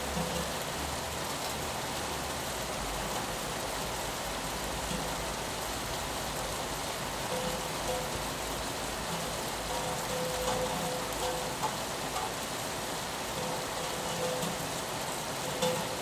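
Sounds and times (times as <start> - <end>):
rain on a window: 0.0 - 16.0.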